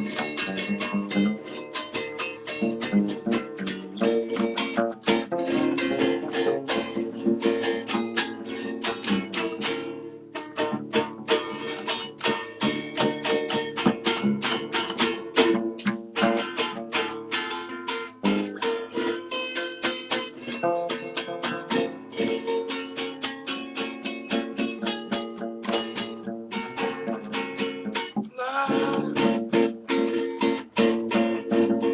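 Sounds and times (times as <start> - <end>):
acoustic bass guitar: 0.0 - 31.9
acoustic guitar playing samba: 0.0 - 31.9.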